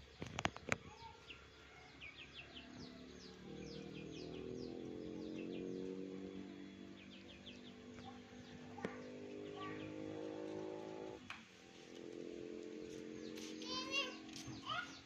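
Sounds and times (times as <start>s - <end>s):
small birds chirping: 0.0s - 15.0s
low steady hum: 1.6s - 14.5s.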